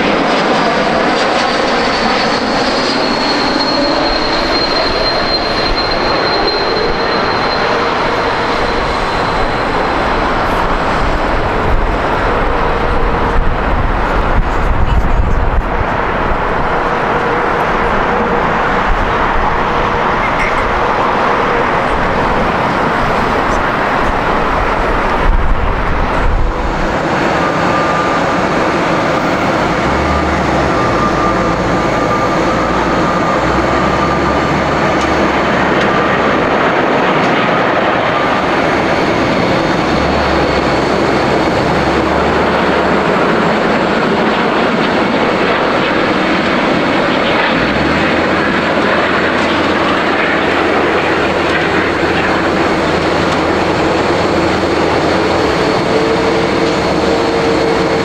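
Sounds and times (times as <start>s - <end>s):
jet engines roaring: 0.0s - 58.0s
thin high whine: 0.0s - 58.0s.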